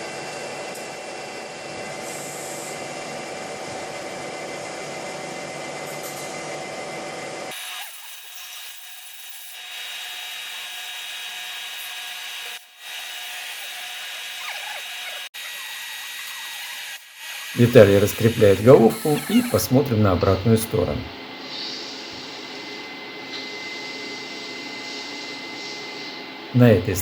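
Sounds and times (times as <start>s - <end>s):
metalworking machine high whine: 0.0s - 27.0s.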